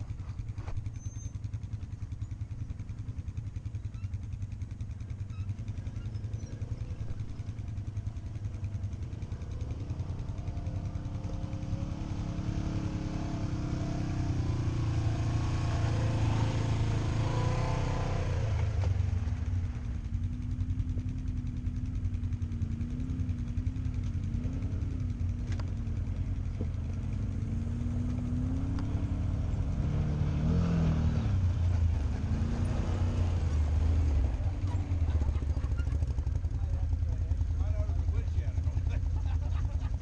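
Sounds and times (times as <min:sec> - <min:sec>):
off-road vehicle engines revving: 0:00.0 - 0:40.0.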